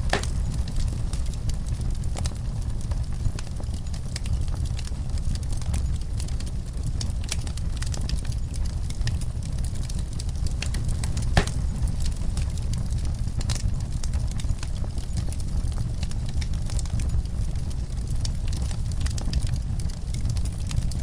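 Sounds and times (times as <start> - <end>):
fire crackling and snapping: 0.0 - 21.0.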